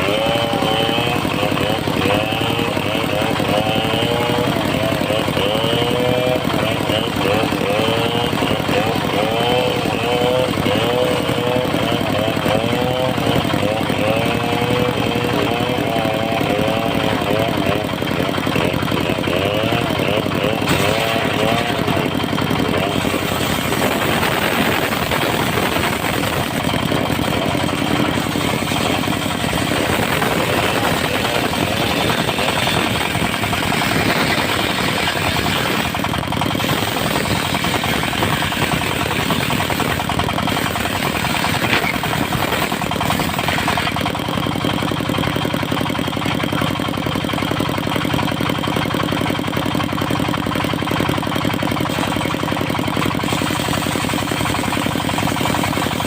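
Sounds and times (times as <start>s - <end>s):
sawmill diesel engine running: 0.0s - 56.0s.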